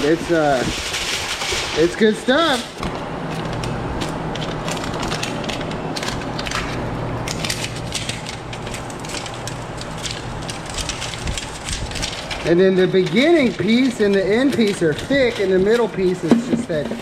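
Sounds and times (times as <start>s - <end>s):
paper crinkling and crackling: 0.0s - 17.0s
steady low hum: 0.0s - 17.0s.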